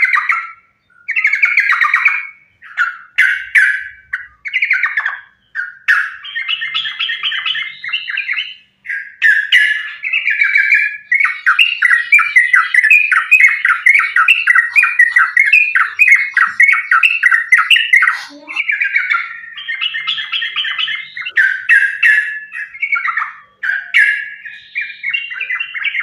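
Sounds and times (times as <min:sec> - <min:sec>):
bulbul singing chattering phrases: 0:00.0 - 0:26.0.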